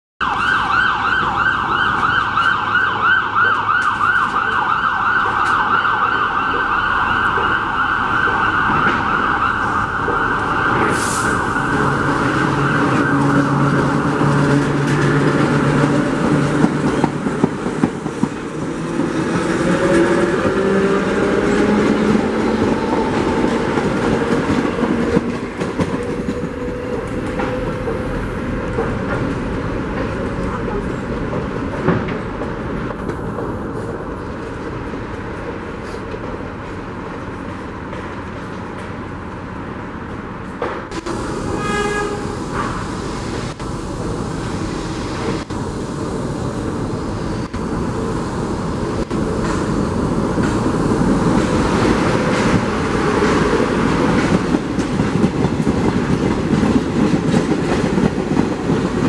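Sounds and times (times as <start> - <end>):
rumble of passing train cars: 0.2 - 59.0.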